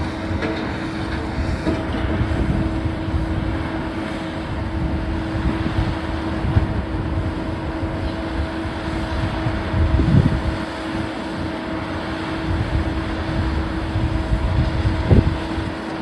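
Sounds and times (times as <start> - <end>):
demolition machinery running: 0.0 - 16.0.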